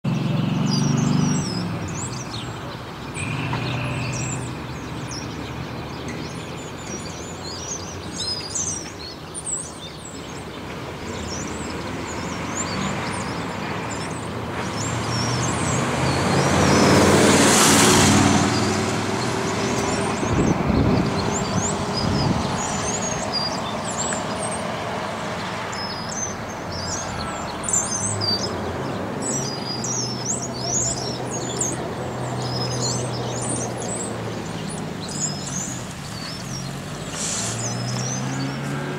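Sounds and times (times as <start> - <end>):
motor vehicle passing: 0.0 - 7.6, 10.3 - 38.9
small birds chirping: 0.0 - 38.9.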